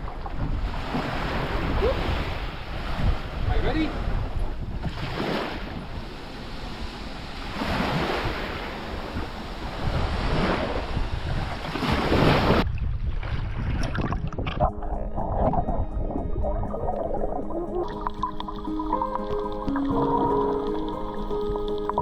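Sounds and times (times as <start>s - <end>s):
sea surf: 0.0s - 12.6s, 15.0s - 22.0s
wind buffeting microphone: 0.0s - 17.9s.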